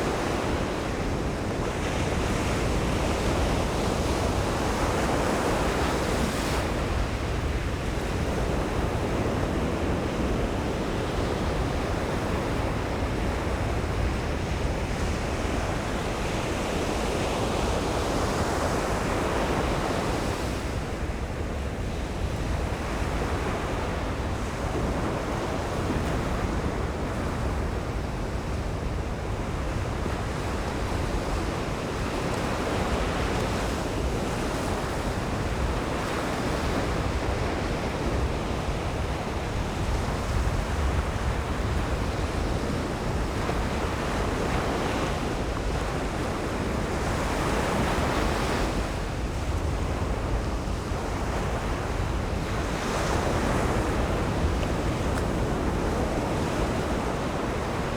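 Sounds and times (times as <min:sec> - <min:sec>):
waves breaking on sandy beach: 0:00.0 - 0:57.9
wind rumbling on microphone: 0:00.0 - 0:57.9.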